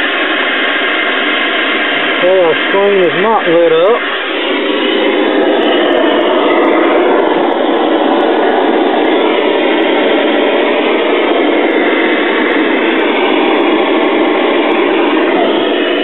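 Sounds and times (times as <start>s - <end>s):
tv static hiss: 0.0s - 16.0s.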